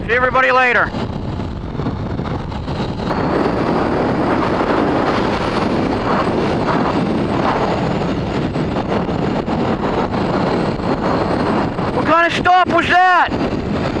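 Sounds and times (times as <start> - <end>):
motorcycle engine: 0.0 - 12.1
road noise: 0.0 - 14.0
wind rushing on microphone: 0.0 - 14.0.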